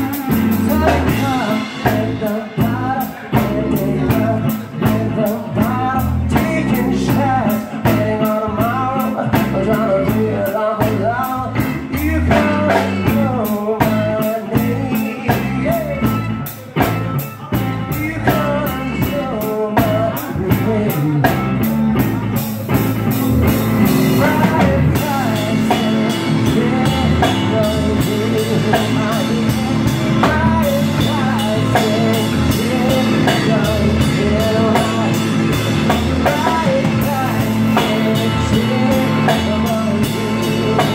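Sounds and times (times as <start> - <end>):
drum kit: 0.0 - 40.9
electric bass: 0.0 - 40.9
electric guitar: 0.0 - 40.9.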